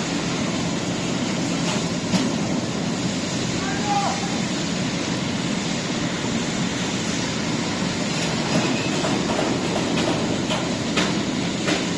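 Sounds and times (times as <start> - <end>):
mechanical rumble and rattle: 0.0 - 3.6, 4.5 - 11.9.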